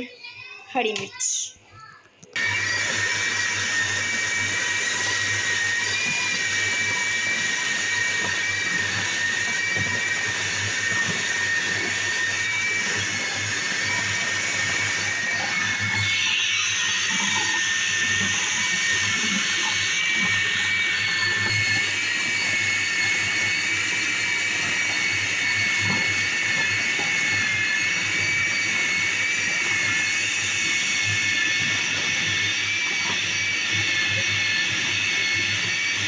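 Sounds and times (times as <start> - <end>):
electric food chopper whining: 2.2 - 36.0.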